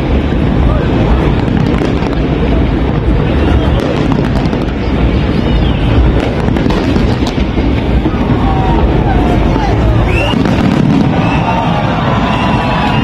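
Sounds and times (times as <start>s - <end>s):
crowd voices: 0.0s - 13.0s
fireworks booming: 0.0s - 13.0s
fireworks crackling: 0.0s - 13.0s.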